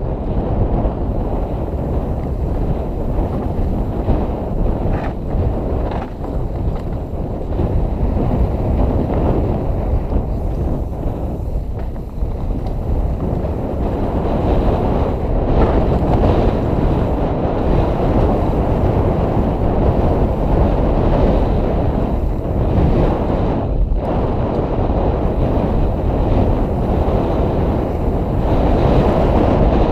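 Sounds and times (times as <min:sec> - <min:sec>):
bike tyre trail noise: 0:00.0 - 0:29.9
wind buffeting microphone: 0:00.0 - 0:29.9.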